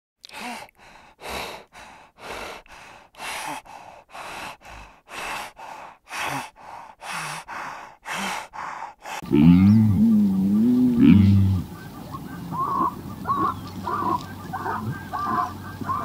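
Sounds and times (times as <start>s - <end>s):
animal breathing heavily: 0.8s - 16.0s.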